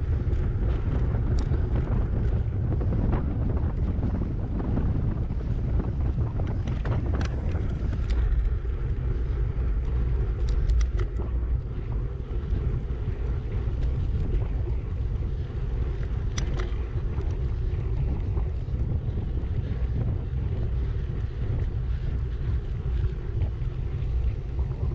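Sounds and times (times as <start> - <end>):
wind buffeting microphone: 0.0 - 24.9
faint ticks: 0.1 - 2.5, 6.4 - 24.9.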